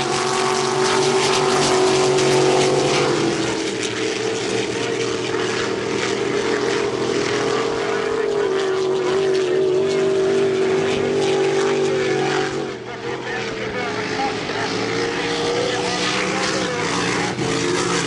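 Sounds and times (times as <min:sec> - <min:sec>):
speedboat engines droning: 0:00.0 - 0:18.0.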